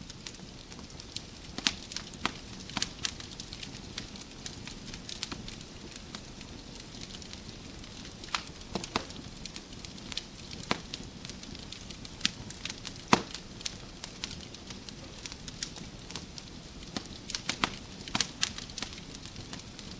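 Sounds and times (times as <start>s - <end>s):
low rush of flames: 0.0s - 19.9s
wood fire crackling: 0.0s - 19.9s
sharp pops and snaps: 0.2s - 6.3s, 8.1s - 19.9s.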